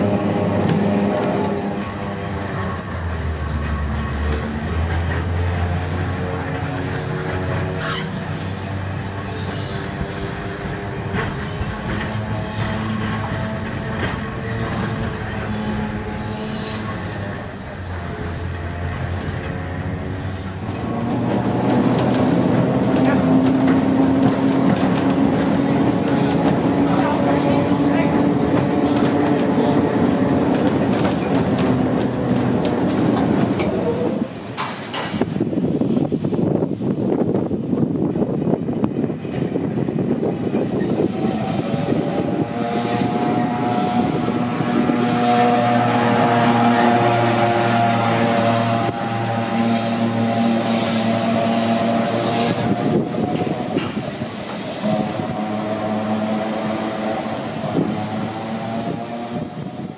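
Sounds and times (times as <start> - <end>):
tram motor and wheels humming: 0.0 - 59.9.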